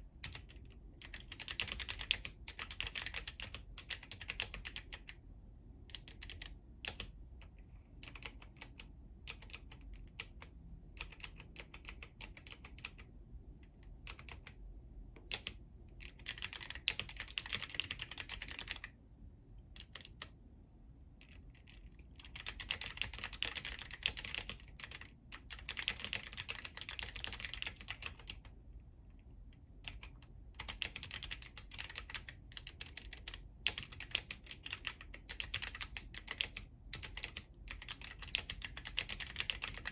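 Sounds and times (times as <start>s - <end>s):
clicky mechanical keyboard typing: 0.2s - 5.2s, 5.9s - 7.2s, 8.0s - 13.1s, 13.8s - 14.6s, 15.2s - 18.9s, 19.7s - 20.3s, 21.2s - 28.6s, 29.5s - 39.9s.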